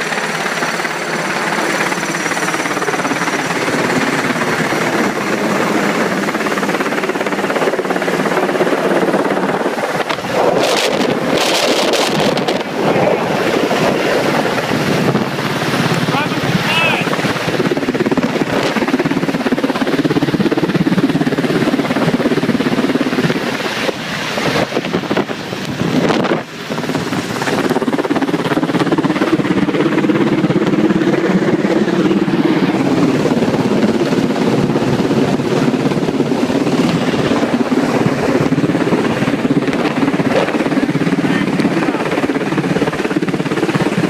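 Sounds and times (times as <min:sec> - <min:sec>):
helicopter flying low: 0:00.0 - 0:44.0
wind buffeting microphone: 0:00.0 - 0:44.0.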